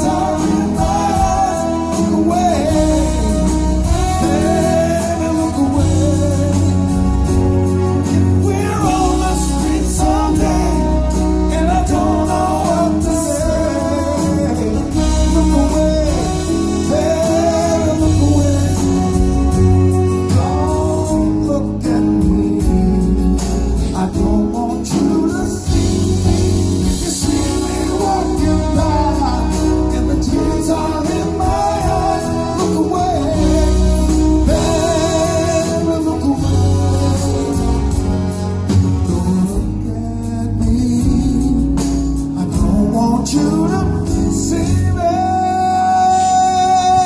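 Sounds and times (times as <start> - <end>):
saxophone: 0.0 - 24.2, 25.4 - 40.2
live rock band playing: 0.0 - 47.0
person singing: 0.0 - 47.0.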